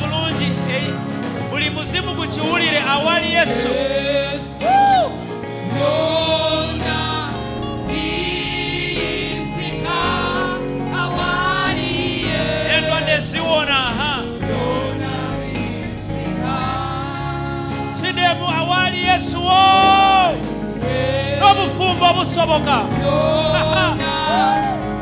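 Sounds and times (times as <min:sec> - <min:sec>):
choir singing: 0:00.0 - 0:25.0
instrumental backing: 0:00.0 - 0:25.0
lead singer: 0:00.0 - 0:25.0.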